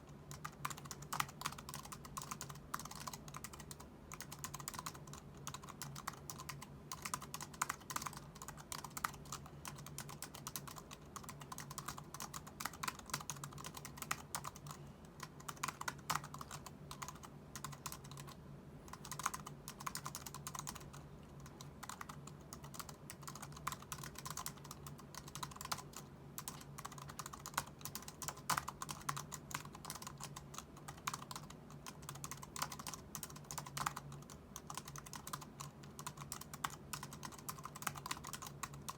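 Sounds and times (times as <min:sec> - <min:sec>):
keyboard typing clicks: 0:00.3 - 0:38.9.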